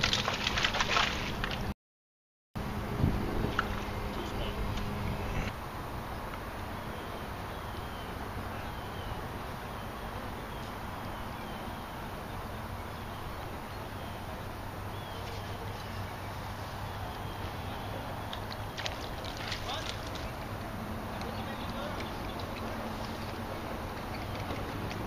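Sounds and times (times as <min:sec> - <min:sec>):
outdoor background hiss: 0:02.6 - 0:25.0.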